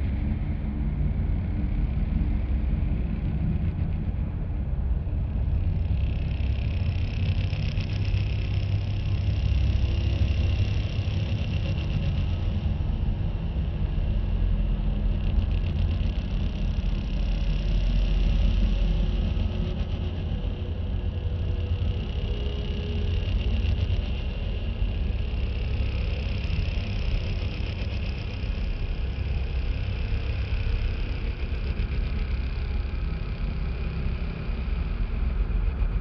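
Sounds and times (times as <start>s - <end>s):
deep rumbling hum: 0.0s - 36.0s.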